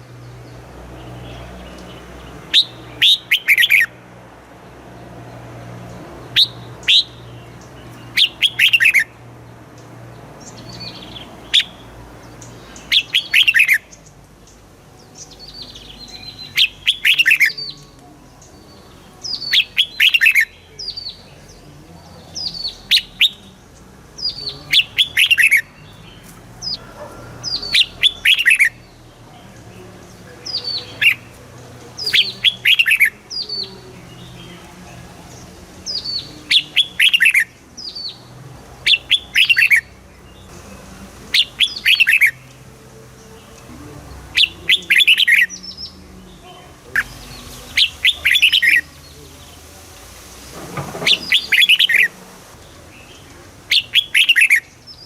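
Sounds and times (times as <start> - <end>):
bird singing whistled notes: 0.0 - 4.0, 6.3 - 9.2, 10.4 - 42.6, 43.2 - 49.6, 51.0 - 55.0.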